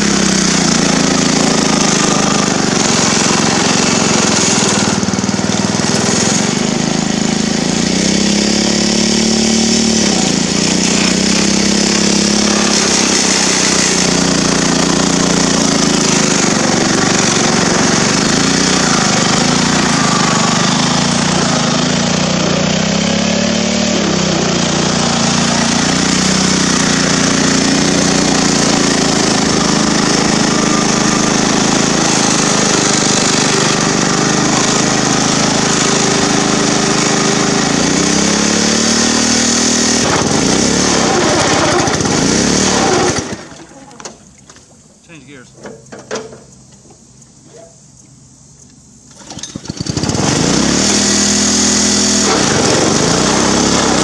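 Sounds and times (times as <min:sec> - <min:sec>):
mower engine running: 0:00.0 - 0:54.0.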